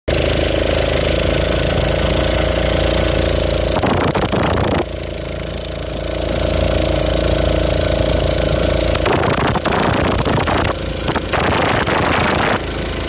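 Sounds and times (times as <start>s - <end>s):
motor running steadily: 0.1s - 13.0s.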